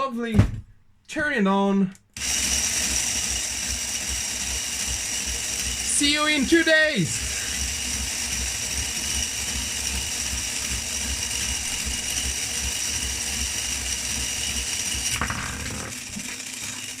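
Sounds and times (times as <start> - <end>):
geared mechanism clicking and thumping: 2.2 - 17.0
small motor whining: 2.2 - 17.0.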